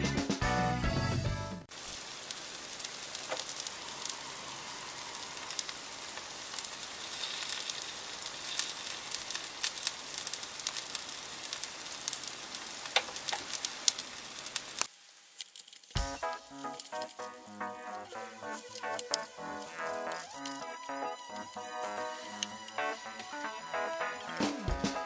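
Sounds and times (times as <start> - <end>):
food sizzling in a pan: 1.7 - 25.0.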